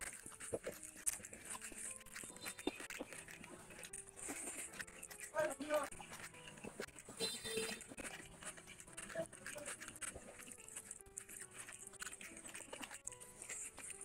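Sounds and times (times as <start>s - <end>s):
fingers working rice on plate: 0.0s - 14.0s
wet chewing mouth clicks: 0.0s - 14.0s.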